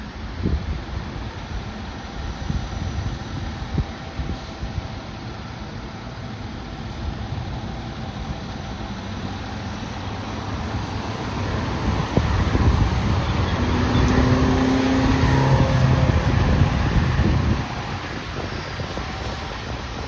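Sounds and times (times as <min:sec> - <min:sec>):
diesel engine rumbling: 0:00.9 - 0:20.0.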